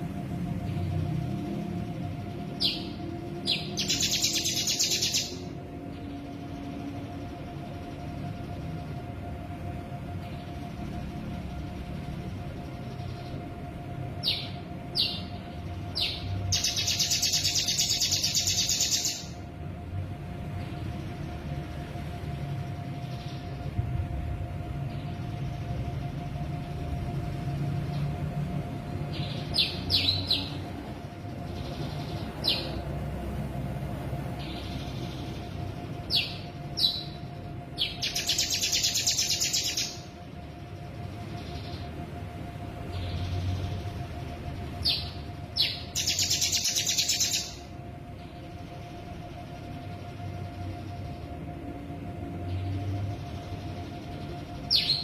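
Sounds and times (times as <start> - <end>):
bird singing rattling trill: 0.0 - 55.0.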